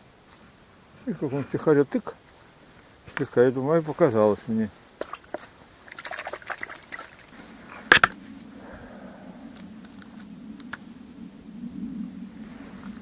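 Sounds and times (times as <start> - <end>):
dry reeds rustling: 0.0 - 13.0
steady low hum: 0.0 - 13.0.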